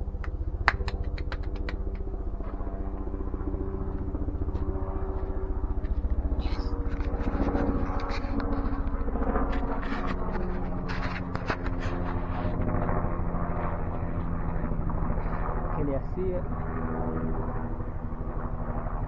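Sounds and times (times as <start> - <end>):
small engine running: 0.0 - 15.6.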